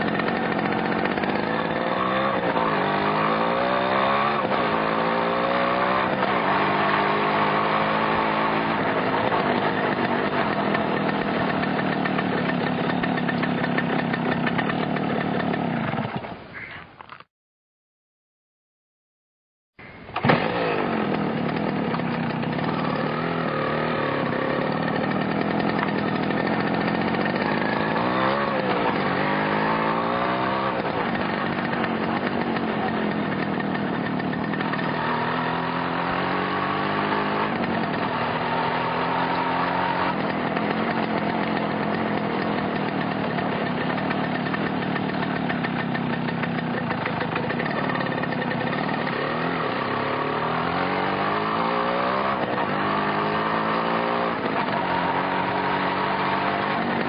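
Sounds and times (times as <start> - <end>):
motorcycle engine revving: 0.0 - 16.4, 20.1 - 57.0.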